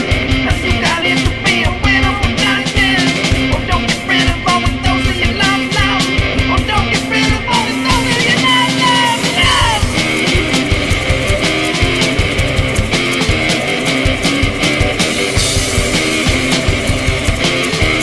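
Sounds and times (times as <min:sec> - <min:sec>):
loud rock music: 0:00.0 - 0:18.0
steady drum beat: 0:00.0 - 0:18.0
wavering lead line: 0:03.1 - 0:18.0.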